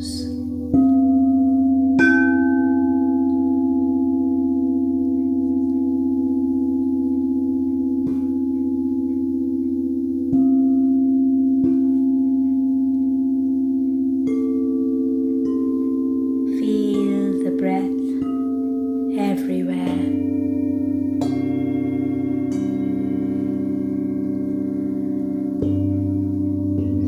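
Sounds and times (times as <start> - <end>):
low steady hum: 0.0 - 27.0
singing bowls ringing: 0.0 - 27.0.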